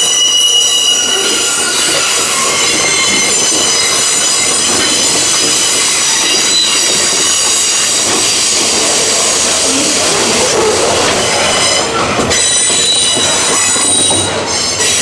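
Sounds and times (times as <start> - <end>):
train rumbling past: 0.0 - 15.0
train wheels squealing: 0.0 - 15.0.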